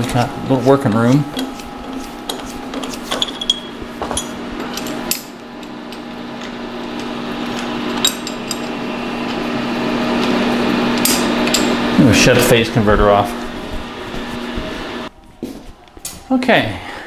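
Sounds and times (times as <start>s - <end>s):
phase converter hum: 0.0s - 17.0s.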